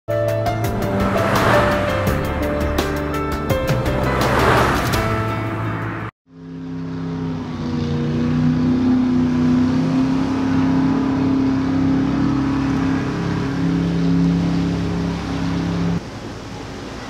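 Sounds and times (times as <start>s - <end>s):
motorboat engines droning: 0.1s - 17.0s.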